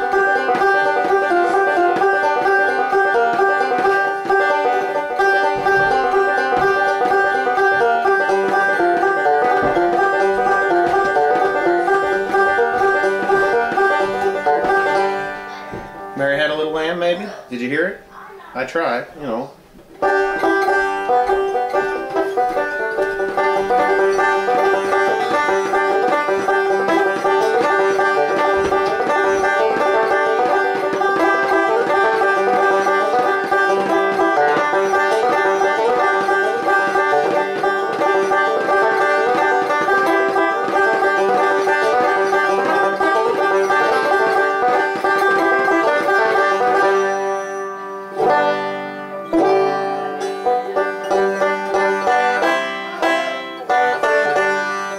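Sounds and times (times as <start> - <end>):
banjo strums: 0.0 - 18.0, 18.6 - 54.9
banjo picking: 0.0 - 54.9.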